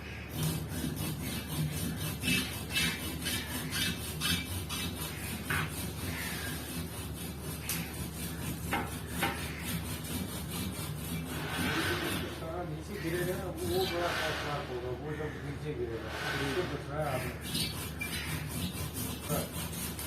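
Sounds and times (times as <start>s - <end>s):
hand saw cutting branch: 0.3s - 14.9s, 16.0s - 20.0s.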